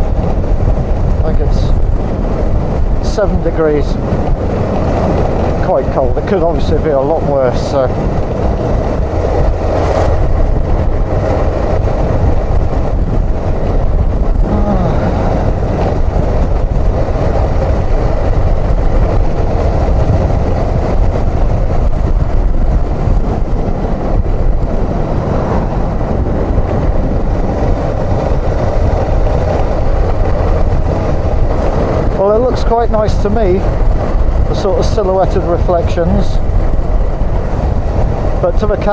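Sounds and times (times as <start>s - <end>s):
motorcycle engine running: 0.0s - 38.9s
wind and road noise rumble: 0.0s - 38.9s.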